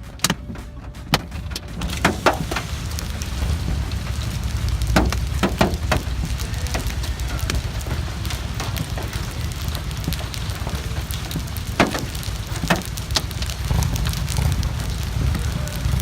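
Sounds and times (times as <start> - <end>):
hailstones striking: 0.0 - 16.0
rain pelting down: 0.0 - 16.0.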